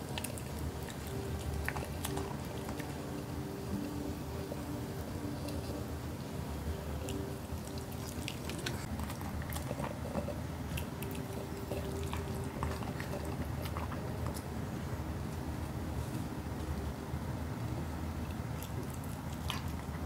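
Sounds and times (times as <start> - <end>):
puppy chewing and biting: 0.0 - 16.9, 17.6 - 20.0
steady low hum: 0.0 - 20.0.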